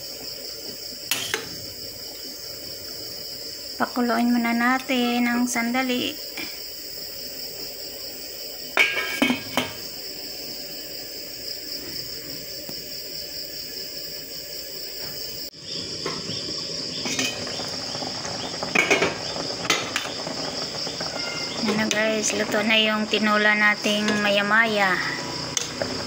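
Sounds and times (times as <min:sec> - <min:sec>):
crickets chirping: 0:00.0 - 0:26.0
soup bubbling at a boil: 0:00.0 - 0:26.0.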